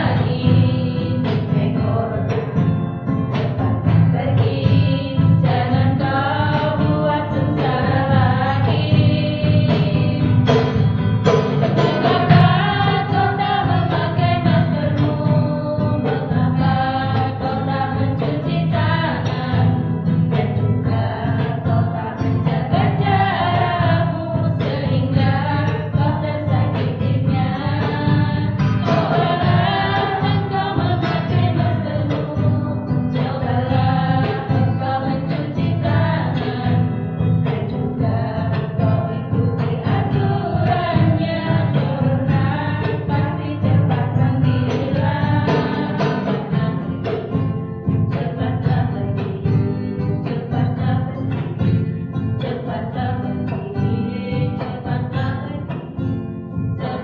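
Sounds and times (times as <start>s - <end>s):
music with singing voices: 0.0s - 57.0s.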